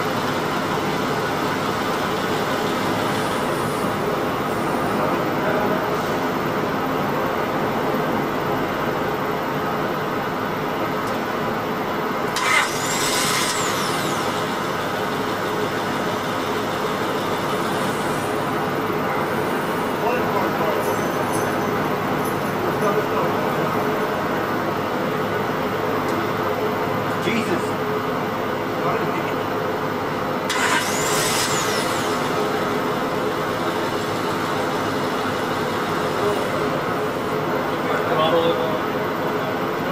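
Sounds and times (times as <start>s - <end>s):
car engine idling: 0.0s - 27.2s, 27.8s - 39.9s.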